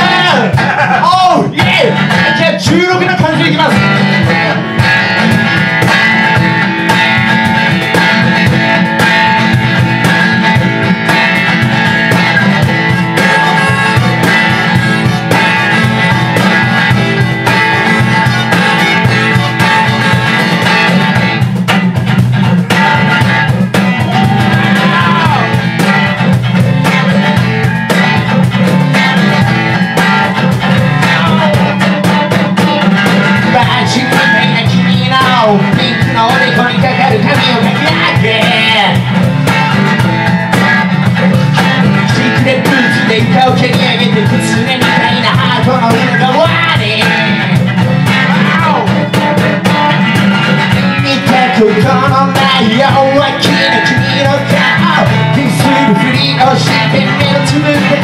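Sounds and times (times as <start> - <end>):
guitar strummed: 0.0 - 58.0.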